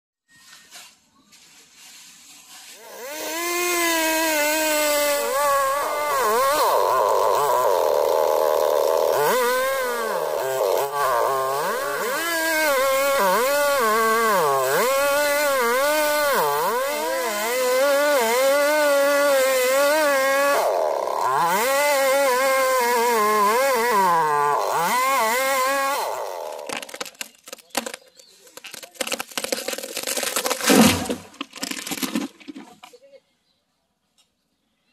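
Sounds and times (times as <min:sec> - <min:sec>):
chainsaw cutting through wood: 0:02.6 - 0:32.6.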